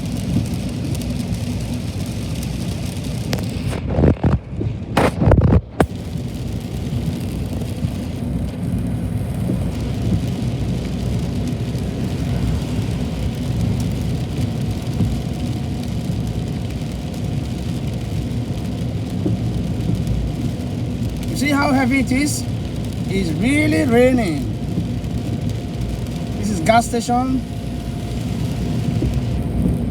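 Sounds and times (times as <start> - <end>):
heavy rain falling: 0.0 - 4.4, 5.2 - 29.9.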